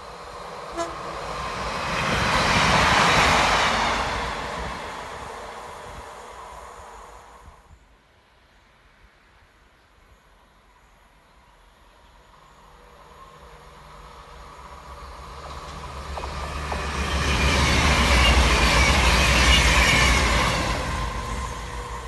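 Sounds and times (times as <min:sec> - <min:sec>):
diesel train passing: 0:00.0 - 0:07.8, 0:11.3 - 0:22.0.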